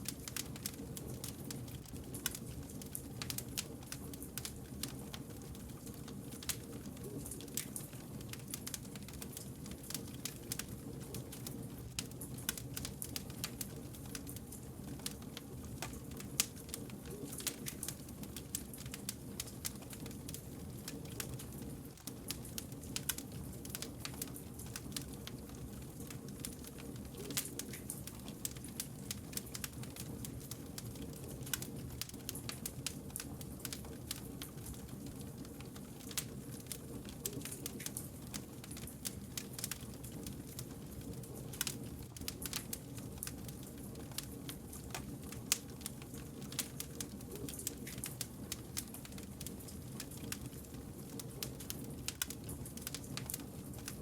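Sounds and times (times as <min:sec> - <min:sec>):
burning logs crackling and popping: 0:00.0 - 0:54.0
wood fire rumbling: 0:00.0 - 0:54.0.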